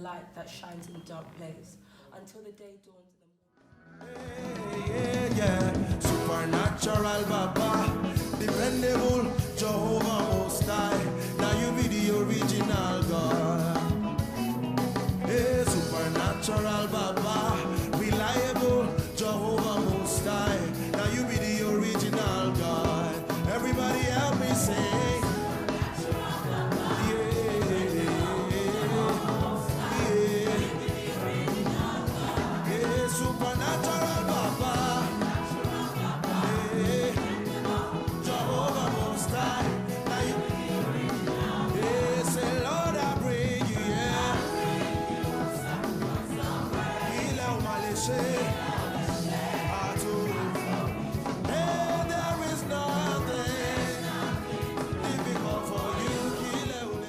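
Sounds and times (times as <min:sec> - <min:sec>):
gospel worship song: 0:03.8 - 0:57.0
band accompaniment: 0:04.0 - 0:57.0.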